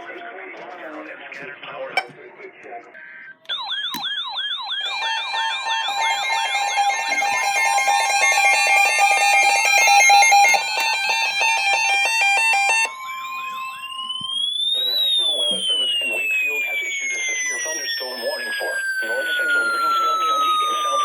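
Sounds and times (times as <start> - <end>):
falling alarm chirp: 3.4 - 21.0
fast pulsing stepped beeps: 3.5 - 21.0.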